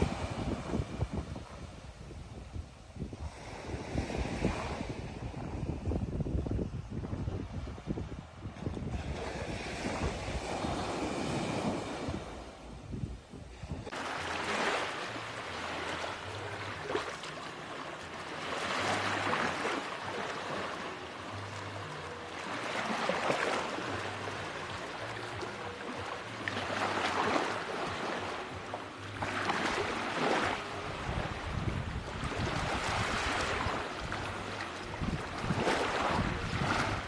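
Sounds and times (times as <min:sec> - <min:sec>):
ocean waves breaking: 0:00.0 - 0:01.9, 0:07.0 - 0:37.0.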